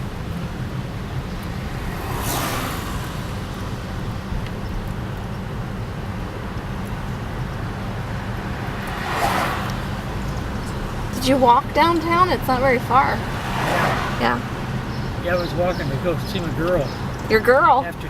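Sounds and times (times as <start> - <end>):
car road noise rumble: 0.0 - 18.0
vehicles swishing past: 0.0 - 18.0.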